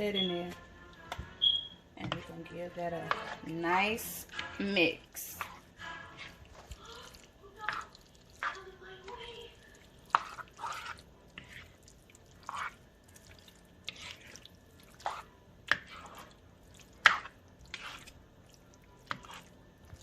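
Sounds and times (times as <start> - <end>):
wet squelches of stirred pasta: 0.0 - 20.0.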